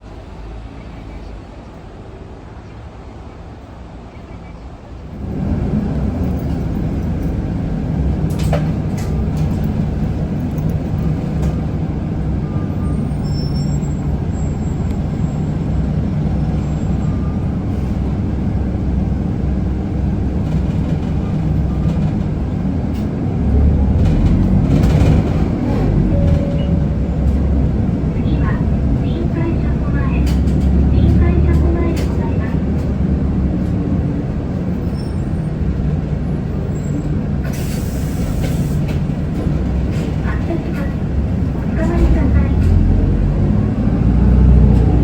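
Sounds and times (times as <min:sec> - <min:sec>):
bus diesel engine running: 0:04.7 - 0:45.0.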